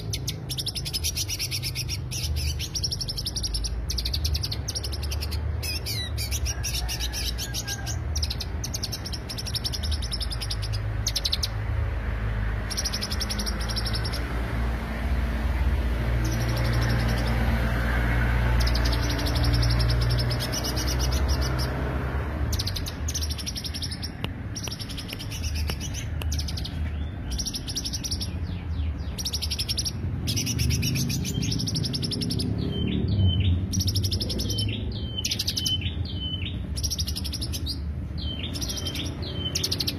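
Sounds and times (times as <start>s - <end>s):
bird singing rapid trills: 0.0s - 11.8s, 12.5s - 14.8s, 15.9s - 39.9s.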